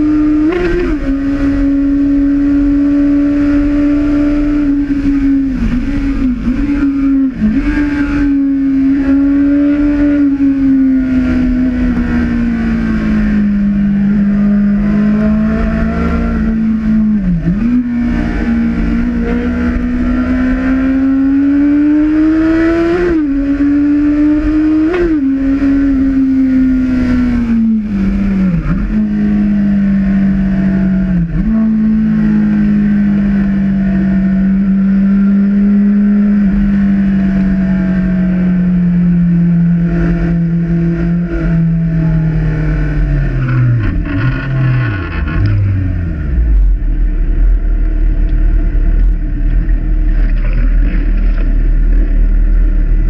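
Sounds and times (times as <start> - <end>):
motorcycle engine while riding: 0.0 - 53.0.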